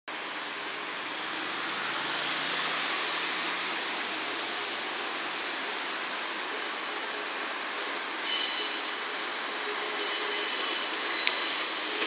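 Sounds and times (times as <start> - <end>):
train rolling hiss: 0.5 - 12.0.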